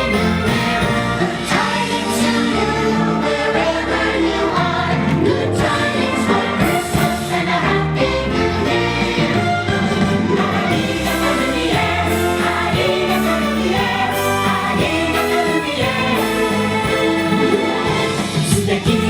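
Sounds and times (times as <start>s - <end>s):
group of voices singing: 0.0s - 19.0s
instrumental backing: 0.0s - 19.0s.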